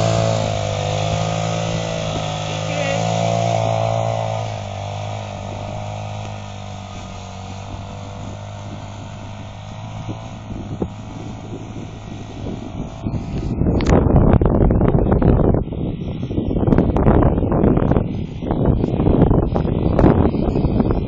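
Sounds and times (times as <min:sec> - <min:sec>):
quad bike engine running: 0:00.0 - 0:21.0
wind buffeting microphone: 0:00.0 - 0:21.0.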